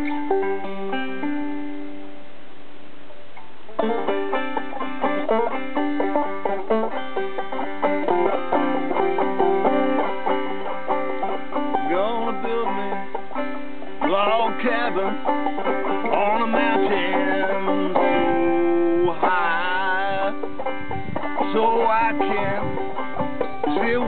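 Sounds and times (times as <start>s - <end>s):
banjo picking: 0.0s - 2.4s, 3.0s - 24.0s
steady hiss: 0.0s - 24.0s.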